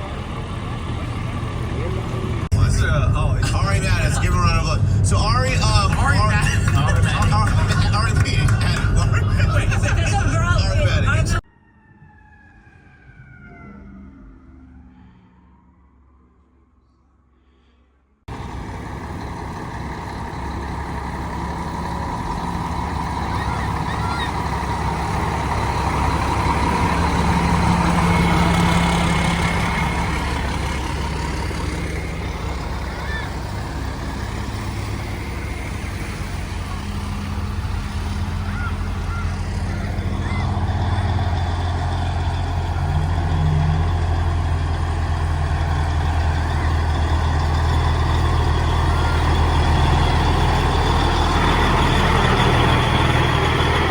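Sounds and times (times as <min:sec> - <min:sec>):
heavy truck engines: 0:00.0 - 0:11.5, 0:18.3 - 0:53.9.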